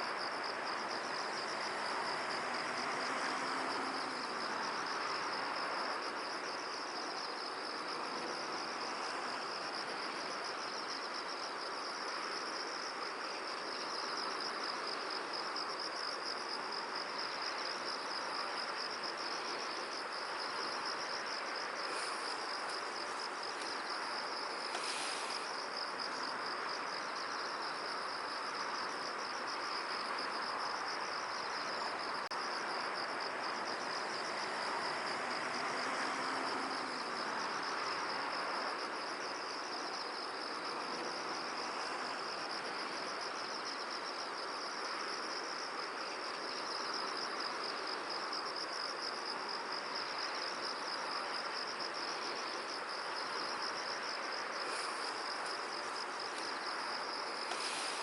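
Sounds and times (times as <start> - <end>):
crickets chirping: 0.0 - 58.0
soft wind hiss: 0.0 - 58.0.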